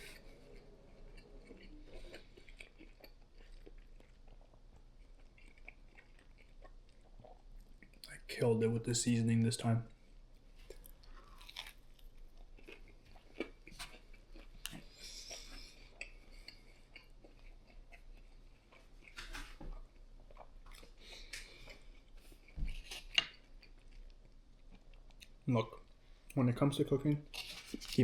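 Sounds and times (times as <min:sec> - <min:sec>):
person chewing food: 0:00.0 - 0:08.2, 0:09.9 - 0:26.4, 0:27.2 - 0:28.0.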